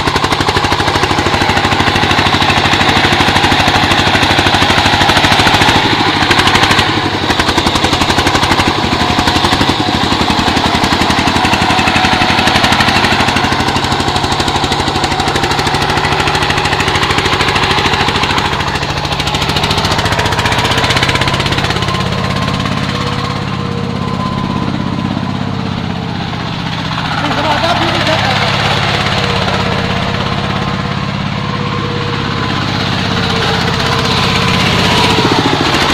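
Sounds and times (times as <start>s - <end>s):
diesel engine chugging: 0.0s - 35.9s.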